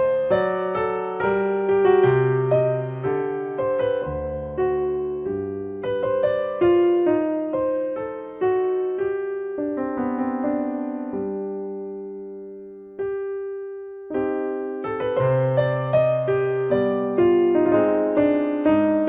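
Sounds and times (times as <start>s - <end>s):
slow gentle piano melody: 0.0s - 19.0s.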